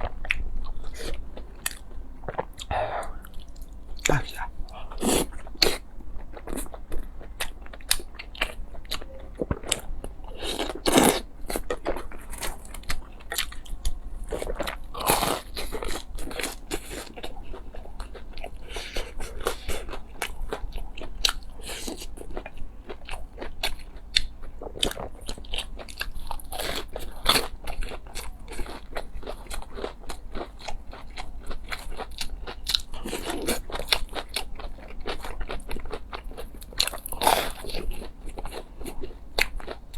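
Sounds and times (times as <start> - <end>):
crunchy bites and chewing: 0.0 - 39.9.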